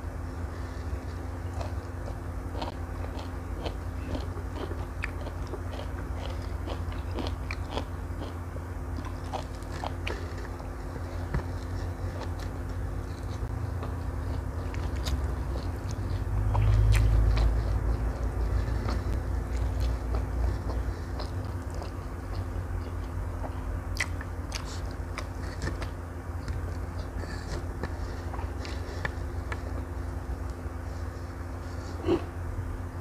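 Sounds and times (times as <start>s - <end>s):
steady low hum: 0.0s - 33.0s
close chewing and mouth clicks: 0.6s - 32.3s.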